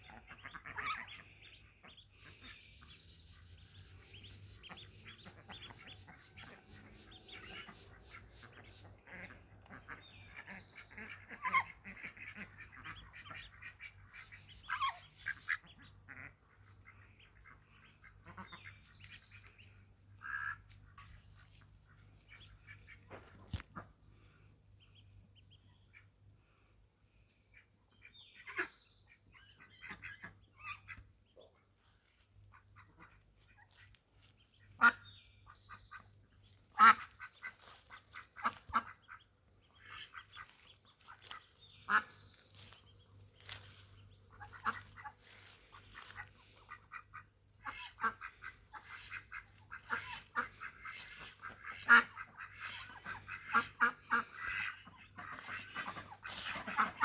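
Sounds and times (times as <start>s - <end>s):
ducks quacking: 0.0s - 26.5s, 27.4s - 57.0s.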